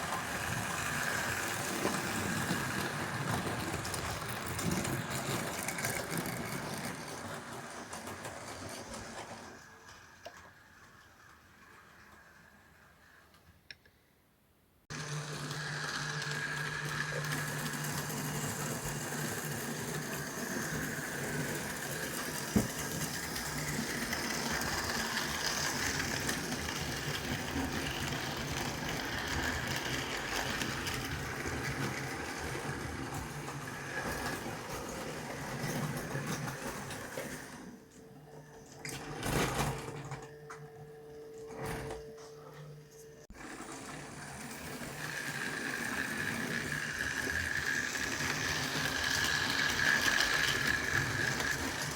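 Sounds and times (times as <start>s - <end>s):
model train running on track: 0.0s - 13.3s, 14.9s - 37.4s, 43.4s - 51.9s.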